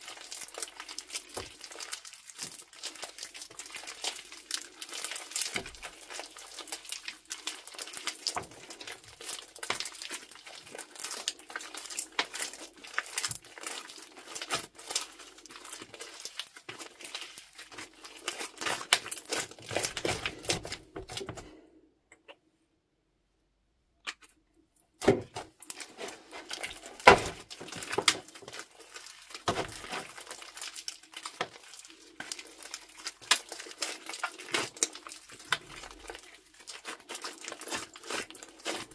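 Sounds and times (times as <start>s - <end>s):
slime squishing and crackling: 0.0s - 21.5s, 25.0s - 38.9s.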